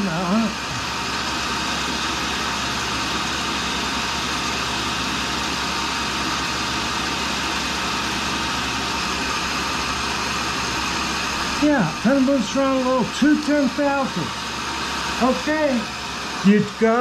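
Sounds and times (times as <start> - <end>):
grinder machine humming: 0.0 - 17.0.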